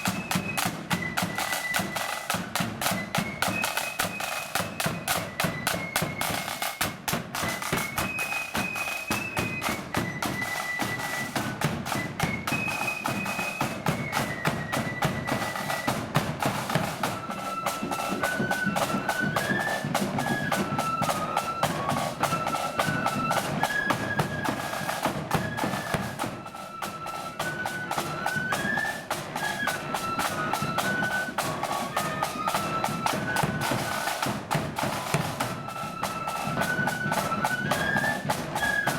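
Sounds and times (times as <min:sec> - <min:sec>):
marching band melody: 0:00.0 - 0:38.9
snare drumming: 0:00.0 - 0:38.9.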